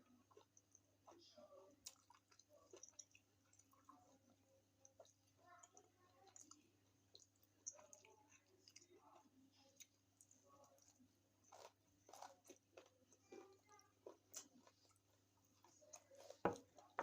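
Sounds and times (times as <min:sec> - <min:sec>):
chewing and wet mouth sounds: 0:00.0 - 0:17.0.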